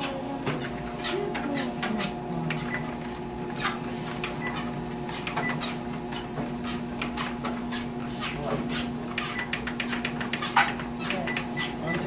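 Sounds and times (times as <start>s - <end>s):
treadmill belt clicking: 0.0s - 12.0s
treadmill motor hum: 0.0s - 12.0s.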